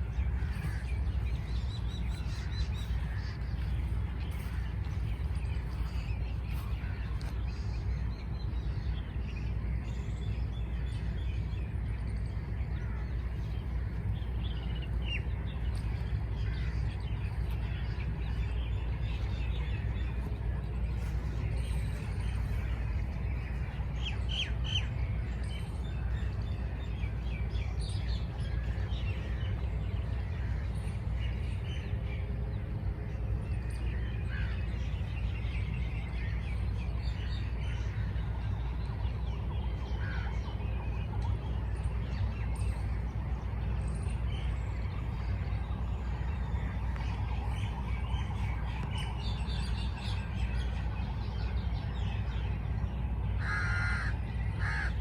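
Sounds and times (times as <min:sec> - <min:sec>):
songbirds chirping: 0:00.0 - 0:55.0
steady low rumble: 0:00.0 - 0:55.0.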